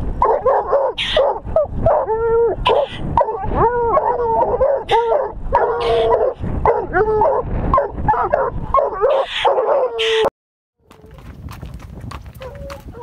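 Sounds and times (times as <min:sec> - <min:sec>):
hounds baying and yipping: 0:00.2 - 0:10.3, 0:12.4 - 0:13.0.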